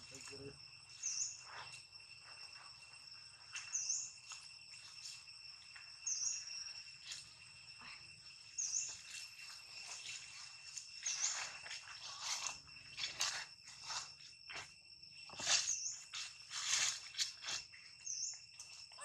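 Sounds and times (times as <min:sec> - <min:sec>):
high-pitched insect chirring: 0:00.0 - 0:19.0.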